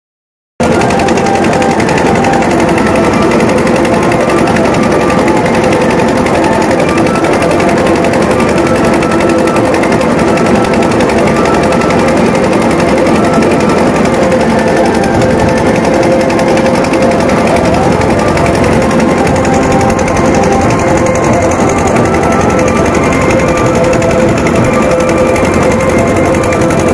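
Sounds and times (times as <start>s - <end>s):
fast drum roll: 0.6s - 26.9s
large crowd noise: 0.6s - 26.9s.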